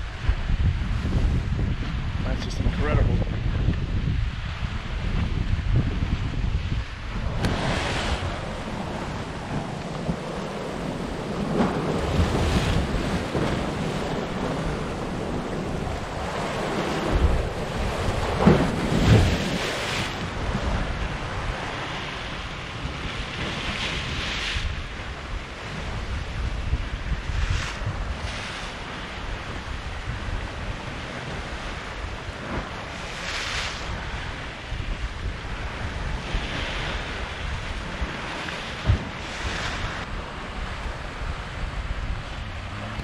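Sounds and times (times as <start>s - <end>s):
wind buffeting microphone: 0.0s - 43.0s
surf breaking on rocks: 4.4s - 43.0s.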